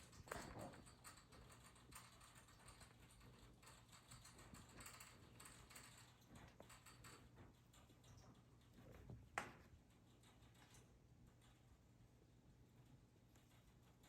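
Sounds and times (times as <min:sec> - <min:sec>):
faint light ticks and clicks: 0:00.0 - 0:12.0.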